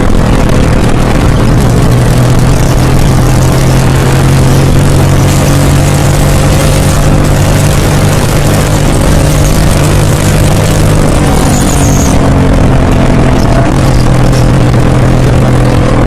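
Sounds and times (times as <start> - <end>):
motorcycle engine running loud: 0.0 - 16.0.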